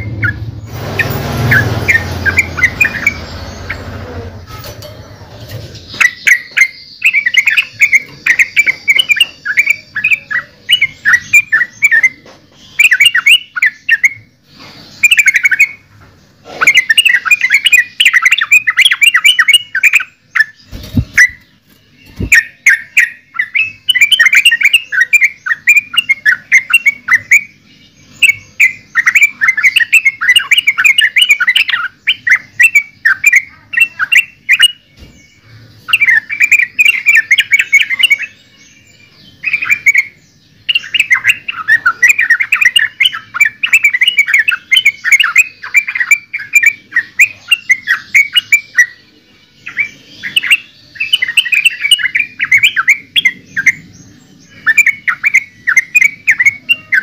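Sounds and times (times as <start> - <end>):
bird song with chattering phrases: 0.0 - 57.0.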